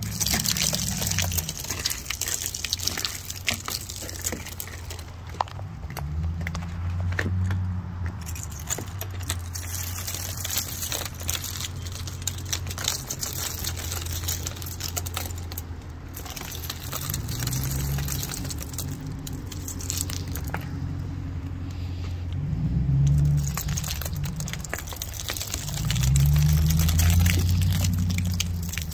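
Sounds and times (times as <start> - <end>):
ice shards clicking and tinkling: 0.0 - 5.5, 8.2 - 20.7, 23.0 - 28.9.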